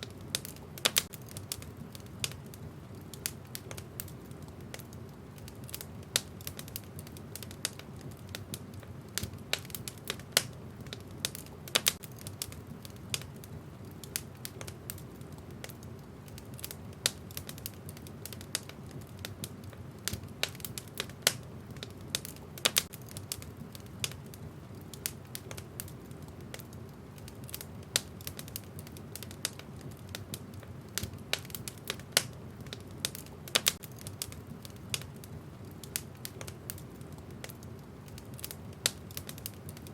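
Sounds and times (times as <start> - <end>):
logs crackling and popping: 0.0 - 39.9
wood fire burning: 0.0 - 39.9.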